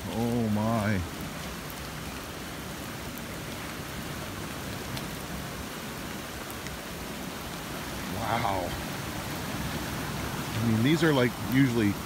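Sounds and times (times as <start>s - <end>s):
fast water rushing: 0.0s - 12.0s.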